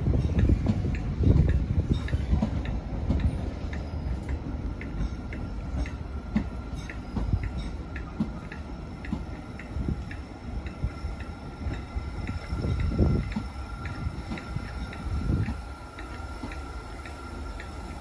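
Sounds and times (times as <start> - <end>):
train rumble: 0.0 - 18.0
wheels clicking over rail joints: 0.0 - 18.0.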